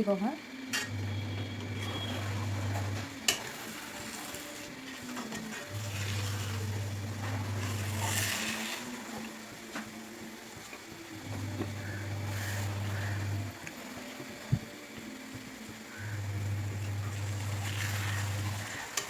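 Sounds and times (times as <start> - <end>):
food sizzling in frying pan: 0.4 - 19.0.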